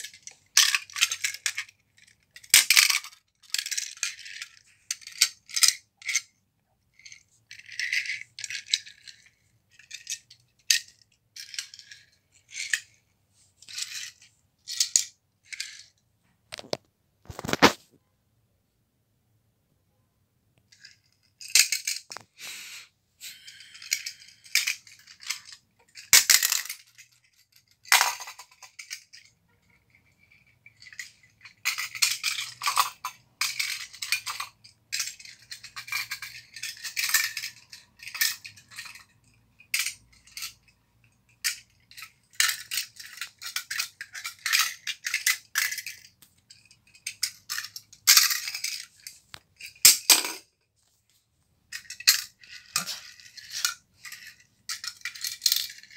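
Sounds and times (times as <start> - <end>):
toy cars clattering on hard floor: 0.0 - 13.0, 13.6 - 17.8, 20.6 - 22.6, 23.2 - 55.9.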